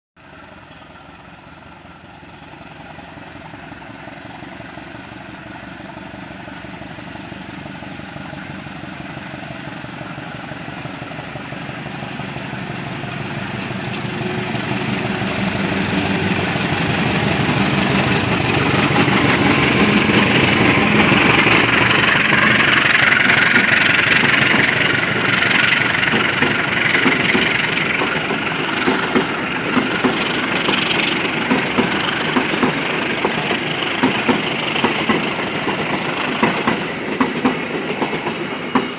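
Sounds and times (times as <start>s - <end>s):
diesel locomotive engine: 0.2s - 38.9s
train wheels clicking over rail joints: 7.5s - 38.9s.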